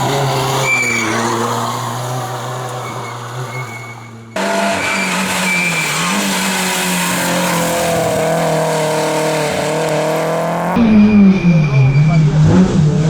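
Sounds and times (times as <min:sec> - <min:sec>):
loud car engine: 0:00.0 - 0:13.0
rally car engine revving: 0:00.0 - 0:13.0.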